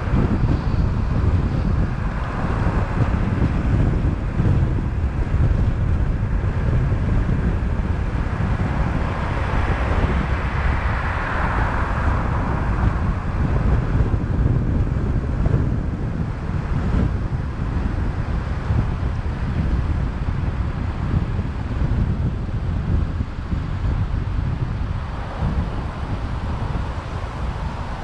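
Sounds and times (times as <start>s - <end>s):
tyre and road noise: 0.0s - 28.0s
wind rumble on microphone: 0.0s - 28.0s.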